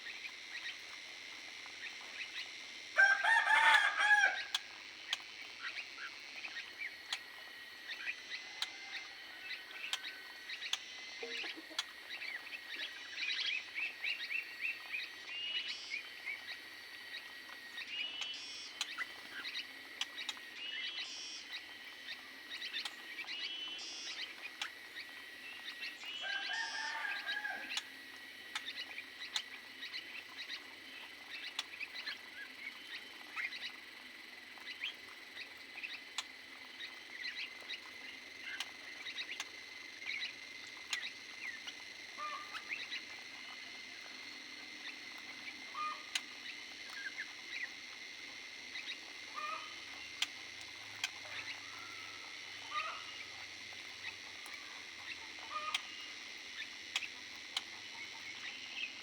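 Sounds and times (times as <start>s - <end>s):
small birds chirping: 4.4s - 47.9s, 48.6s - 59.0s.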